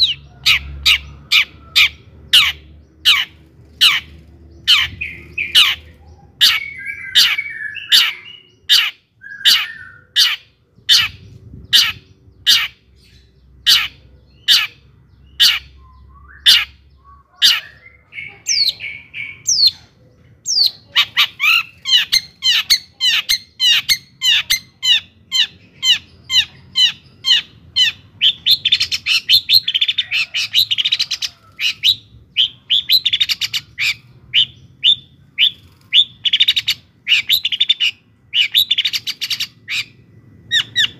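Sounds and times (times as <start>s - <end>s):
bird singing sharp chattering notes: 0.0s - 40.9s.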